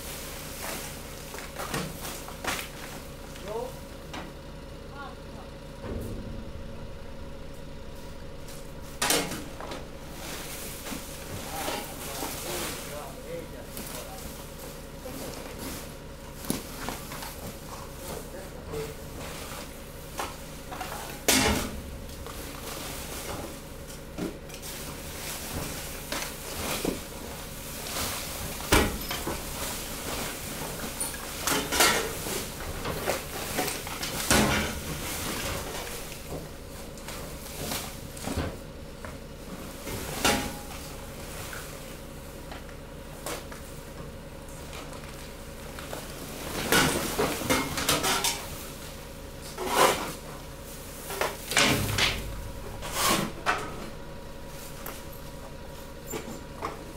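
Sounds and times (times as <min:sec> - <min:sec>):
waste compactor humming: 0:00.0 - 0:56.9.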